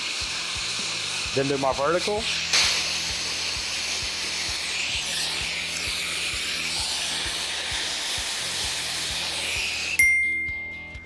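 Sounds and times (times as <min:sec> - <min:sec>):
torch flame hissing: 0:00.0 - 0:10.0
quiet background music with beat: 0:00.2 - 0:11.0.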